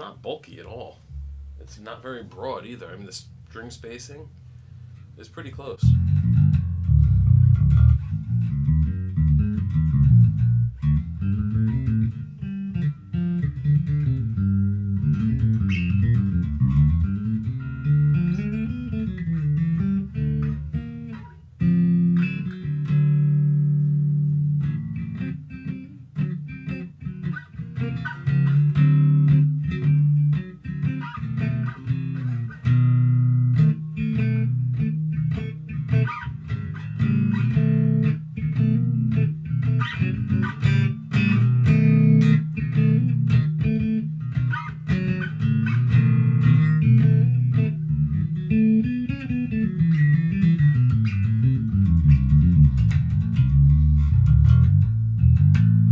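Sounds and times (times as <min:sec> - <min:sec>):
electric bass playing: 0:00.0 - 0:55.9.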